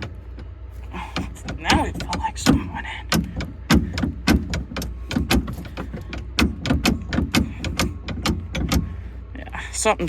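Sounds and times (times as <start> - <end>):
gear lever clicks and clunks: 0.0 - 9.1
tractor engine rumble: 0.0 - 10.0.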